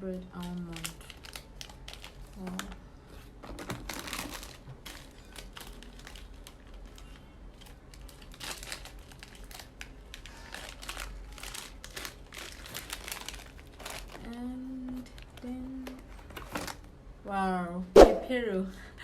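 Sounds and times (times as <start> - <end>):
plastic snack packets crinkling: 0.1 - 16.9.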